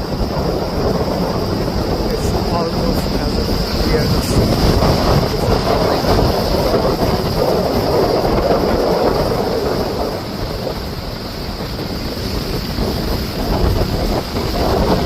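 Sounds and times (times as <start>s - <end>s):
lake waves washing: 0.0s - 15.0s
wind buffeting microphone: 0.0s - 15.0s.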